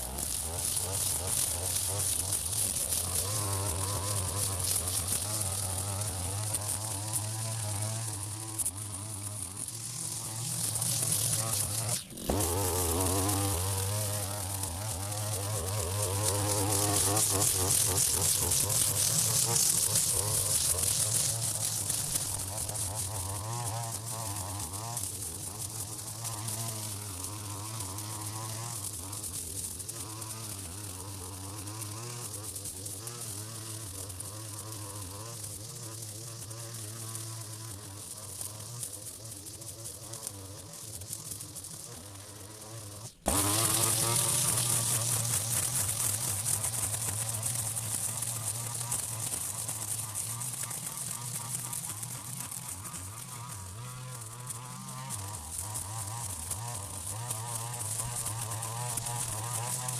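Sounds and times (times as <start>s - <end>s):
string trimmer buzzing: 0.0s - 59.9s.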